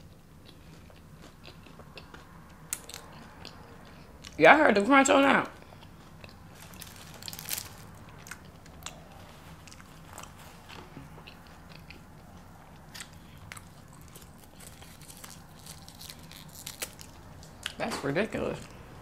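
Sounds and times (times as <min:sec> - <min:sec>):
person chewing crunchy food: 0:00.0 - 0:04.4, 0:05.6 - 0:17.8.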